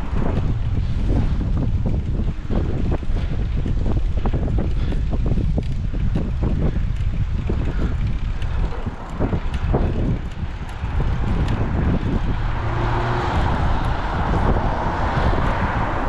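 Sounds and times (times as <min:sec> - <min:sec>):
passing motor vehicle: 0:00.0 - 0:04.2, 0:07.1 - 0:16.0
wind buffeting microphone: 0:00.0 - 0:16.0.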